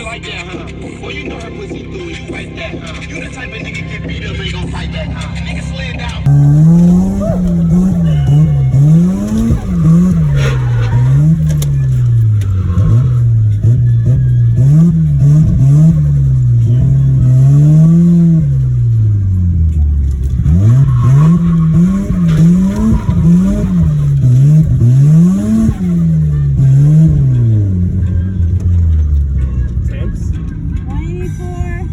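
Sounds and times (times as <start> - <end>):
rotary engine revving: 0.9 - 30.8.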